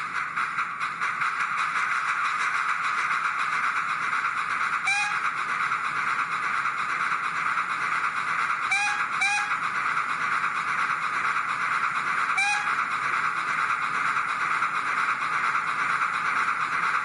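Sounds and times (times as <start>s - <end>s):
steam locomotive hissing rush: 0.0s - 17.0s.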